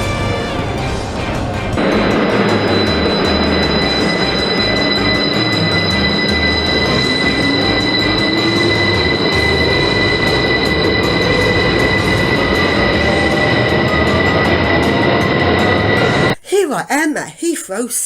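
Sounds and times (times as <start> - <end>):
electric train rail rumble: 0.0 - 16.4
high steady whines: 0.0 - 16.4
low motor tone rising: 0.0 - 16.4.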